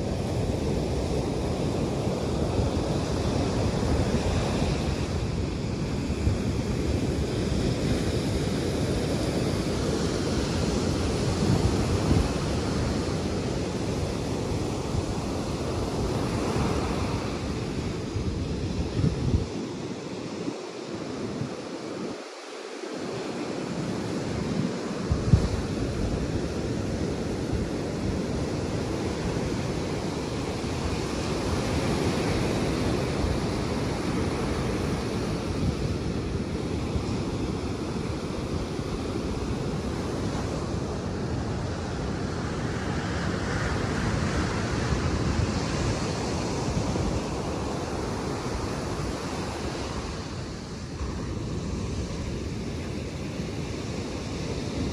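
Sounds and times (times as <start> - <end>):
surf washing onto beach: 0.0 - 54.9
wind rumbling on microphone: 0.0 - 54.9.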